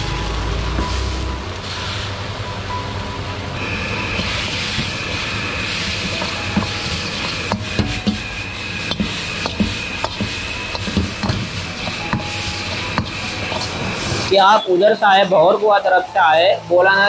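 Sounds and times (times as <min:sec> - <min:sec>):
noodles sizzling in a wok: 0:00.0 - 0:02.4, 0:03.6 - 0:16.5
gas burner rush: 0:00.0 - 0:02.5, 0:03.6 - 0:17.0.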